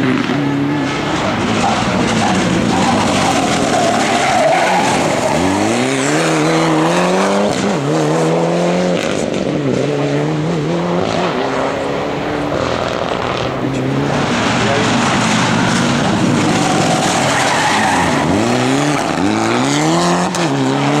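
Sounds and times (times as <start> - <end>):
rally car accelerating hard: 0.0 - 21.0.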